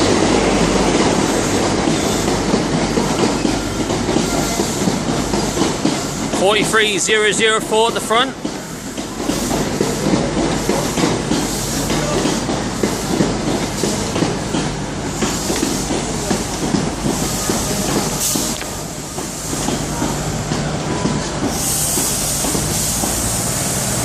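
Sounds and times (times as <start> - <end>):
train wheels clickety-clack: 0.0 - 24.0.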